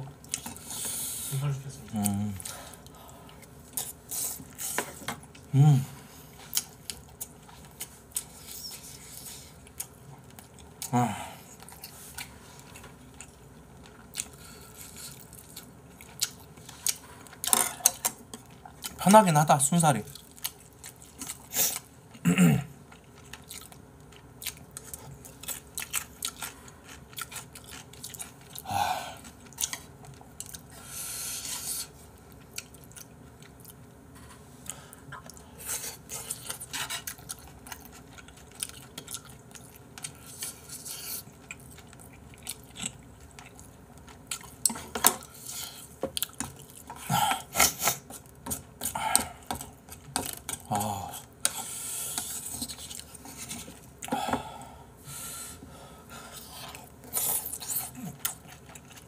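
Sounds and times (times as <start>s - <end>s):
person chewing: 0.2s - 1.2s, 6.2s - 19.0s, 20.1s - 22.2s, 22.8s - 34.0s, 34.6s - 59.0s.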